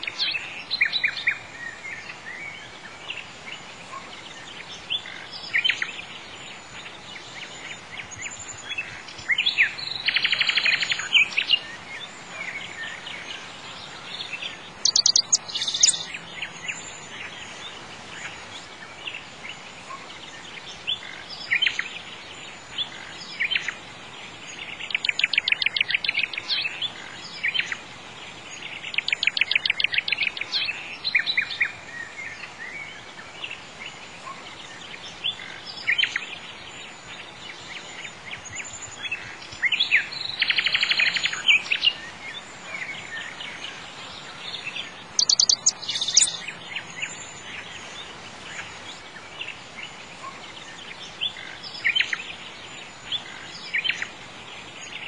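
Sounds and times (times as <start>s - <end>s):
birds chirping and trilling: 0.0s - 55.0s
steady hiss: 0.0s - 55.0s.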